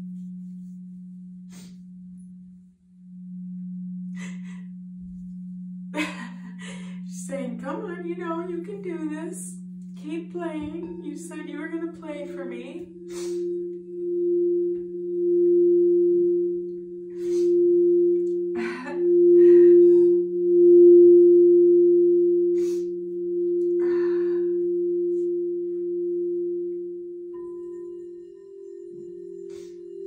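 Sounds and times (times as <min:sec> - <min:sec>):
singing bowls ringing drone: 0:00.0 - 0:30.0.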